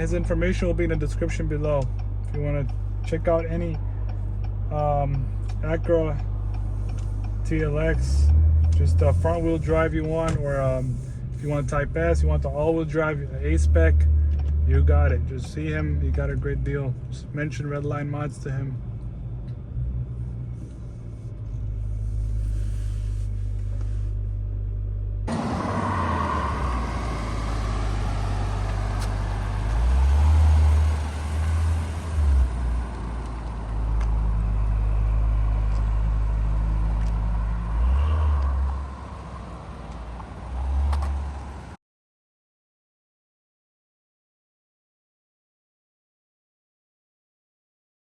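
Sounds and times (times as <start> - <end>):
car engine hum: 0.0 - 41.8
road noise: 0.0 - 41.8.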